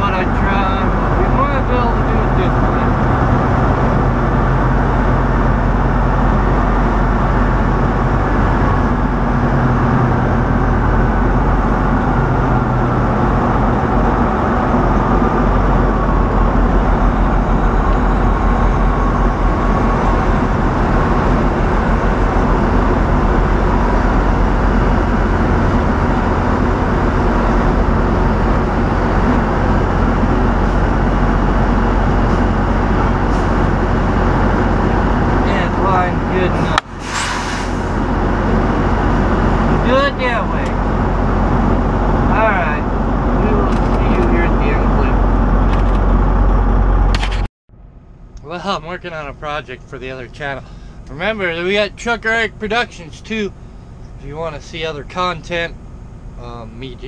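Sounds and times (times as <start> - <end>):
diesel truck engine running: 0.0 - 57.0
road and cab noise: 0.0 - 57.0.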